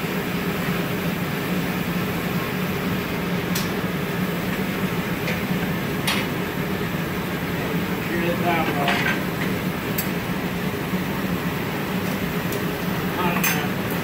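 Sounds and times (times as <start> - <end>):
furnace and blowers running: 0.0 - 14.0.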